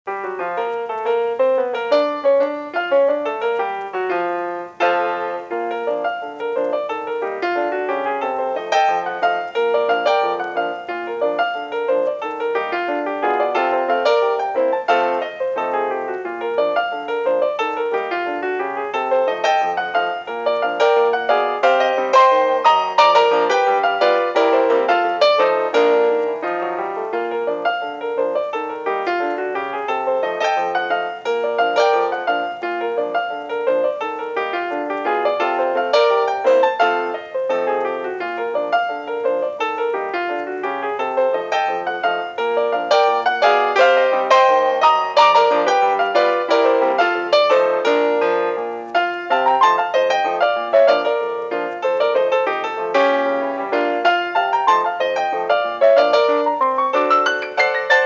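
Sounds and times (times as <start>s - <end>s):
ragtime piano music: 0.0s - 58.0s.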